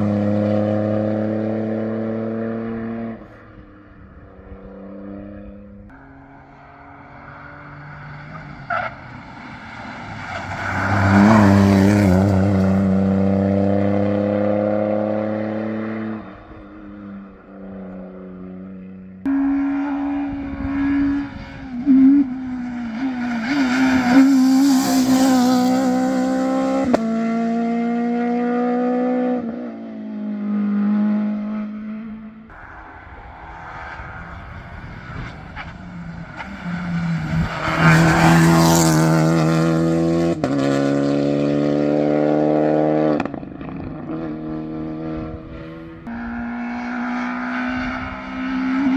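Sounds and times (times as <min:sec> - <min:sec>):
rally cars passing at full throttle: 0:00.0 - 0:48.9.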